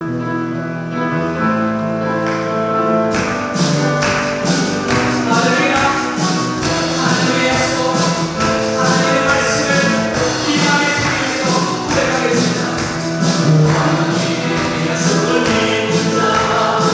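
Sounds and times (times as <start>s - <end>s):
worship band playing: 0.1s - 16.9s
percussion beat: 3.1s - 16.9s.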